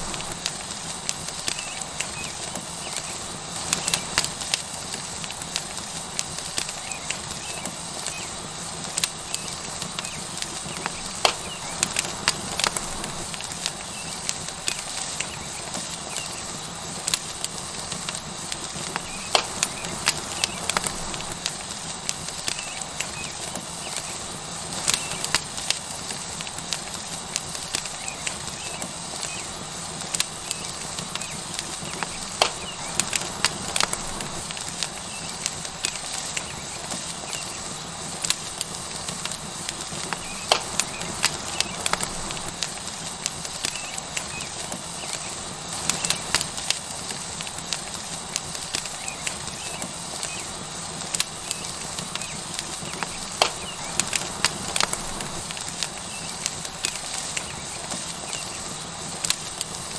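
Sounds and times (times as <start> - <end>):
crackles and pops: 0.0 - 59.9
steak sizzling on hot stone: 0.0 - 59.9.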